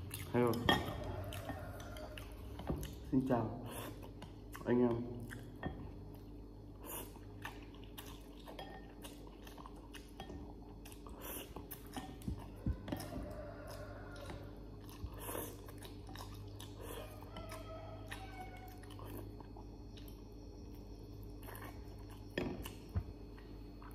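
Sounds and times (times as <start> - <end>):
wet chewing and slurping: 0.0 - 20.4, 21.2 - 23.9.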